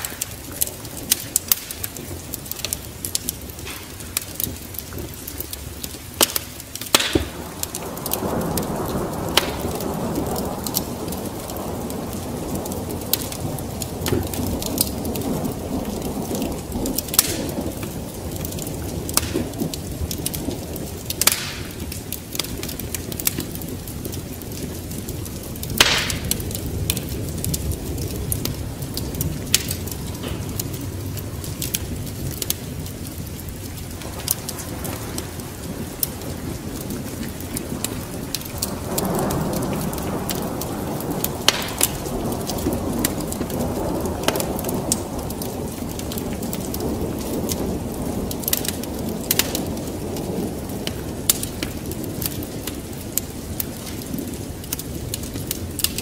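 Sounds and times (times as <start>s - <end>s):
steady rain: 0.0s - 56.0s
thunder rumbling: 0.0s - 56.0s
wood fire crackling and popping: 0.0s - 56.0s.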